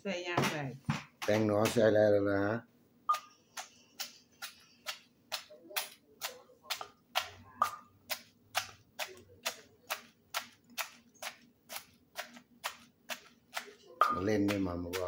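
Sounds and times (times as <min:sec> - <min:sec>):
wooden pestle pounding in mortar: 0:00.4 - 0:02.0, 0:03.6 - 0:15.0.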